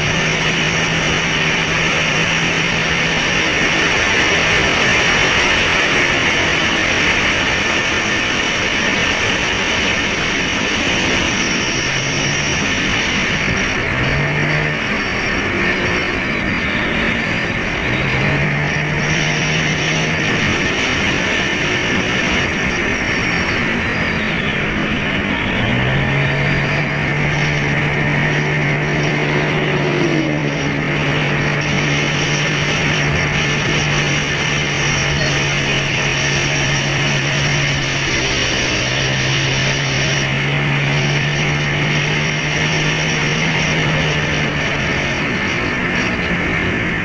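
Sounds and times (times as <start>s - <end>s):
loud rushing noise: 0.0s - 47.0s.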